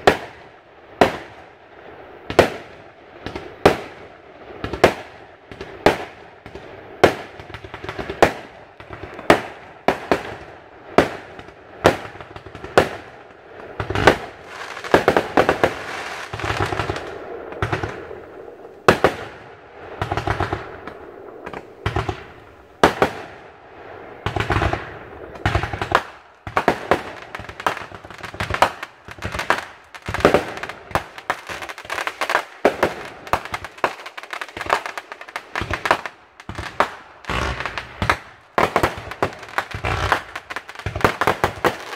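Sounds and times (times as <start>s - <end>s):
fireworks bangs: 0.0s - 41.9s
fireworks crackling: 0.0s - 41.9s.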